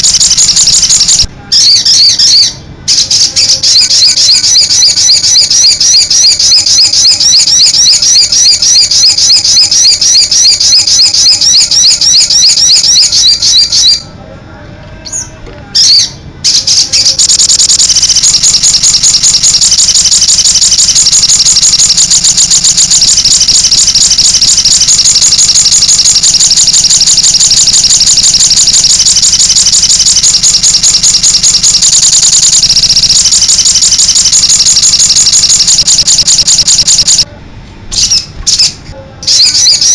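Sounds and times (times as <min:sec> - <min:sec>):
bird singing rapid chirps: 0:00.0 - 0:14.0, 0:15.1 - 0:37.2, 0:37.9 - 0:39.9.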